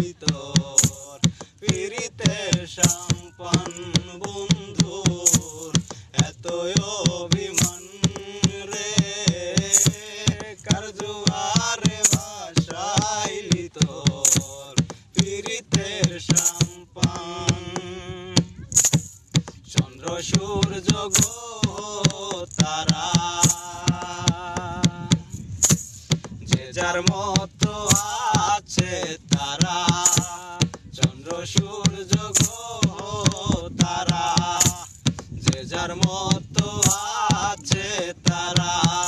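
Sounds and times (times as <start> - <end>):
hands drumming on plastic jerrycan: 0.0 - 39.0
men singing folk song: 0.0 - 39.0.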